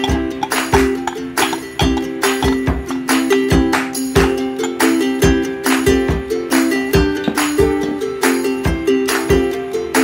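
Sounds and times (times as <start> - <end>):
light percussive beat: 0.0 - 10.0
plucked-string chords: 0.0 - 10.0.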